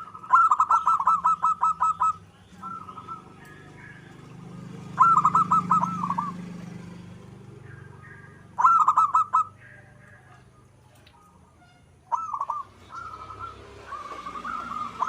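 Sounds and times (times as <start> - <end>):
dove cooing: 0.0 - 11.5, 12.1 - 15.0.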